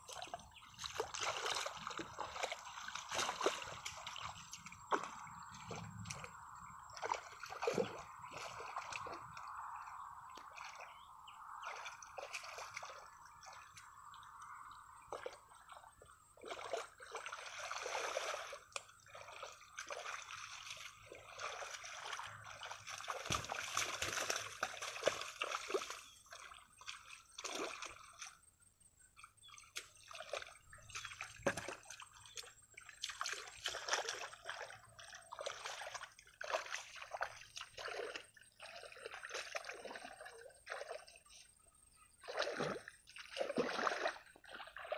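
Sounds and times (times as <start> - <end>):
muddy water sloshing and splashing: 0.0 - 44.9.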